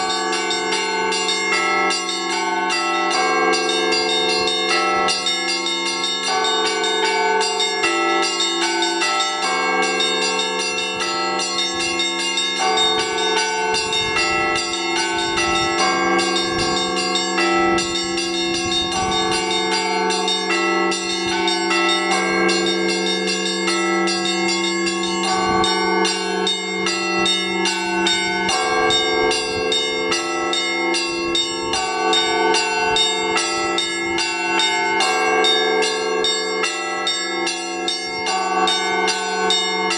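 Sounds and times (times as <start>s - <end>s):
low hum of large bell: 0.0s - 39.9s
small bells chiming: 0.0s - 39.9s.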